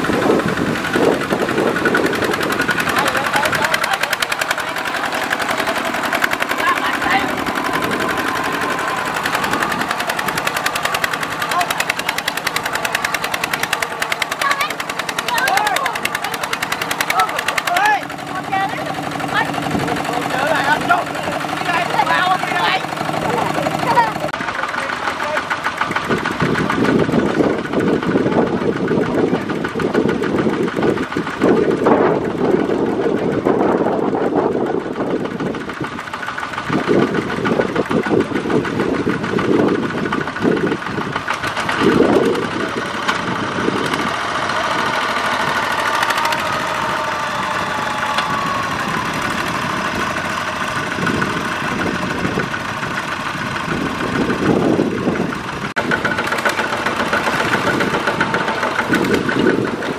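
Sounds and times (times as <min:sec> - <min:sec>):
diesel tractor engines running: 0:00.0 - 0:59.9.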